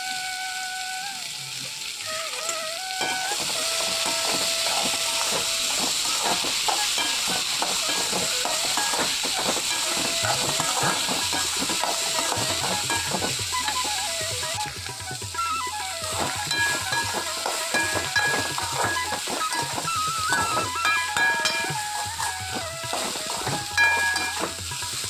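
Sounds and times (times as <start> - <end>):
vegetables sizzling in a pan: 0.0 - 25.0
spatula scraping a pan: 2.4 - 14.7, 15.4 - 25.0
background music with melody: 2.8 - 25.0.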